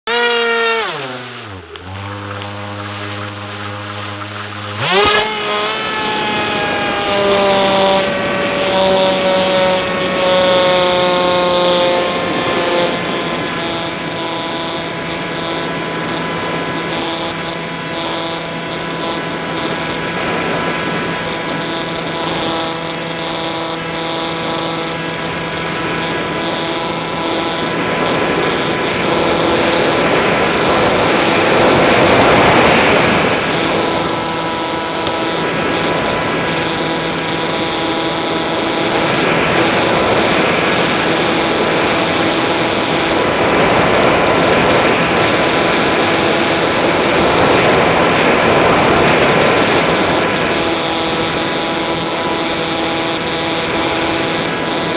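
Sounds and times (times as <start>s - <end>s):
electric motor whine: 0.0s - 54.9s
wind rush: 1.4s - 23.2s, 24.3s - 54.9s.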